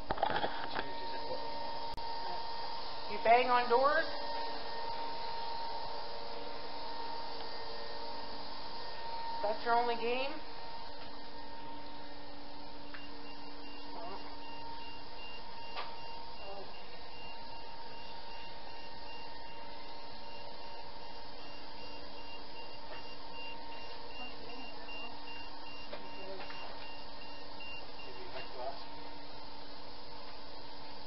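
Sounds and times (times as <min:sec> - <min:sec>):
pump humming: 0:00.0 - 0:31.0
faint high pulsing beep: 0:03.1 - 0:29.4.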